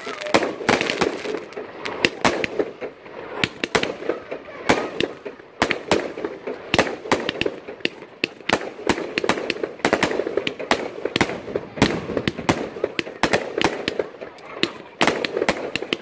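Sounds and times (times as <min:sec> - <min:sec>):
firework crackling hiss: 0:00.0 - 0:16.0
firework shots bursting: 0:00.0 - 0:16.0.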